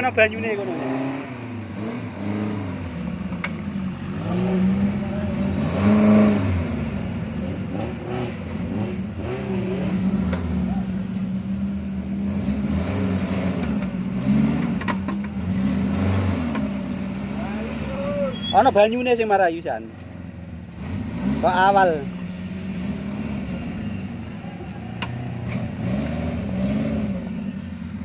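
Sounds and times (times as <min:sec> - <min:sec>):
off-road engine revving under load: 0:00.0 - 0:28.0.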